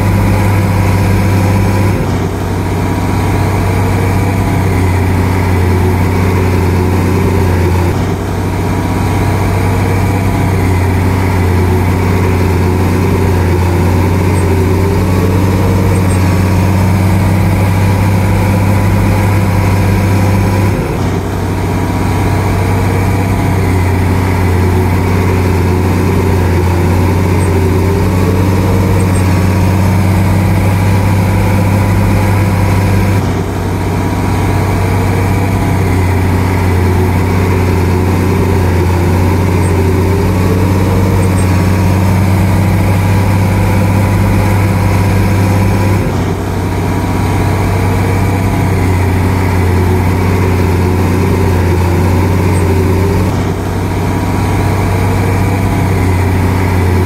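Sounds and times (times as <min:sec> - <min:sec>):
bulldozer diesel engine drone: 0:00.0 - 0:57.0.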